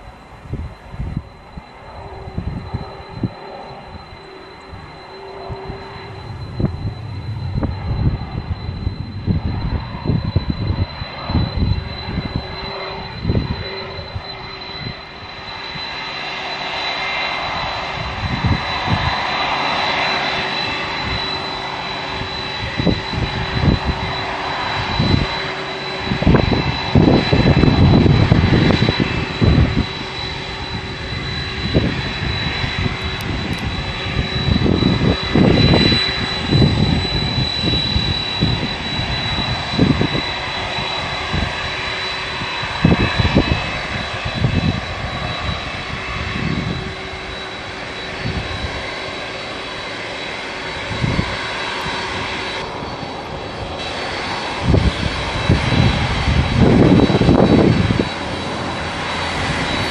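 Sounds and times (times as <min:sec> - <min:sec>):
wind rumbling on microphone: 0:00.0 - 0:49.3, 0:50.6 - 0:59.9
jet engines whining: 0:00.0 - 0:59.9.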